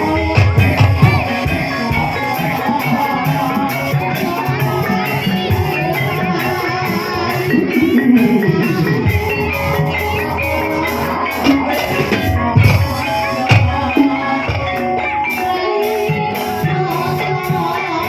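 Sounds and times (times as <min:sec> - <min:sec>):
metallophone notes ringing: 0:00.0 - 0:18.0.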